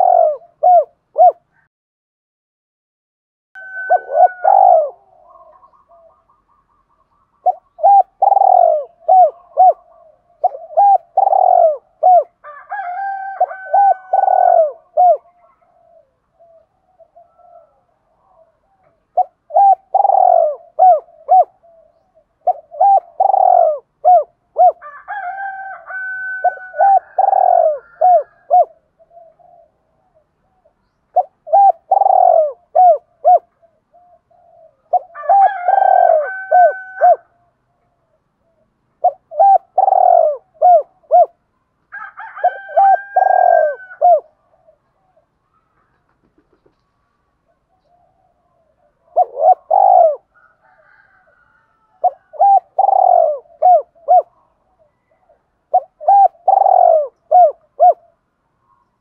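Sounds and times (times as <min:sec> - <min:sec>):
dove cooing: 0:00.0 - 0:01.7, 0:03.6 - 0:41.4, 0:42.0 - 0:46.8, 0:47.5 - 0:58.2.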